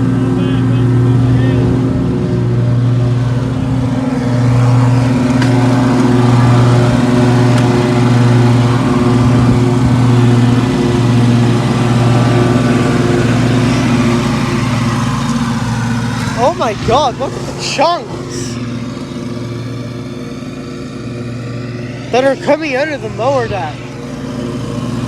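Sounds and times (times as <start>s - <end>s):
riding lawn mower engine running: 0.0s - 25.0s.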